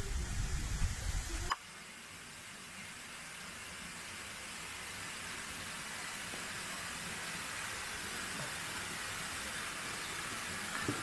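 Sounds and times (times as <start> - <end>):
waterfall splashing onto rocks: 0.0 - 11.0.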